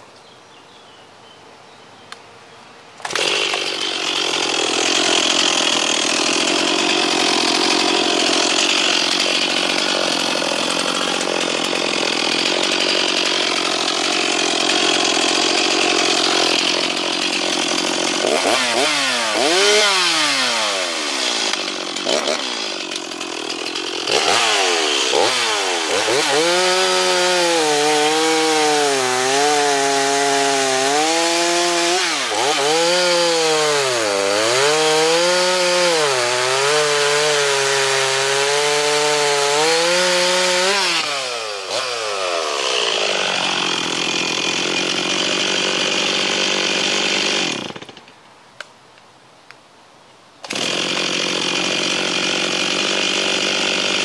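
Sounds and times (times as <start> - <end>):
chainsaw running and revving: 3.0 - 48.0, 50.4 - 54.0
chainsaw cutting through log: 3.0 - 48.2, 50.4 - 54.0.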